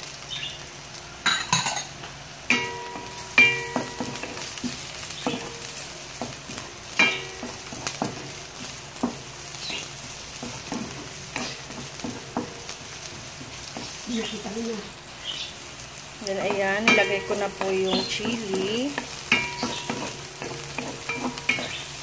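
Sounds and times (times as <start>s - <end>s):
vegetables sizzling in hot oil: 0.0s - 22.0s
wooden spatula knocking pot: 2.5s - 14.6s, 16.4s - 22.0s.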